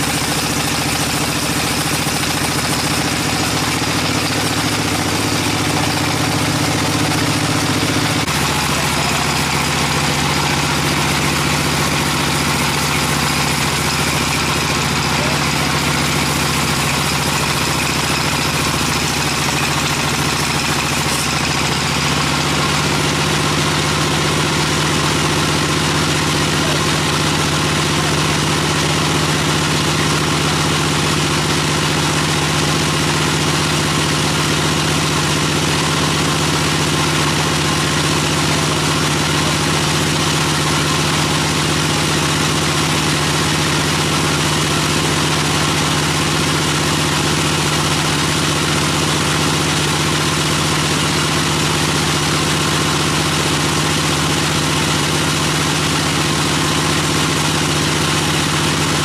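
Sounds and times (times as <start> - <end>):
band sawmill cutting log: 0.0 - 59.0.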